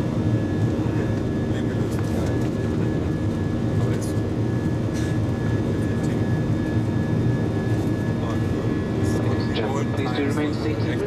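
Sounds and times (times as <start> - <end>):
aircraft cabin engine drone: 0.0 - 11.0.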